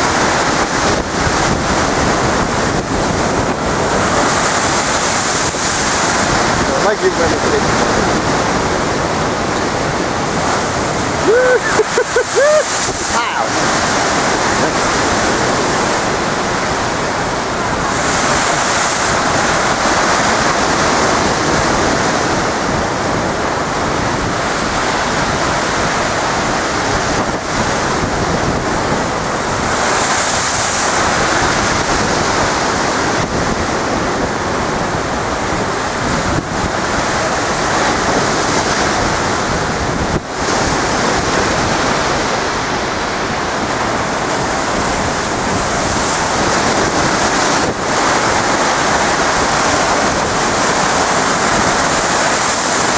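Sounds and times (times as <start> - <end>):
waves crashing against a wall: 0.0 - 52.9
wind buffeting microphone: 0.0 - 52.9.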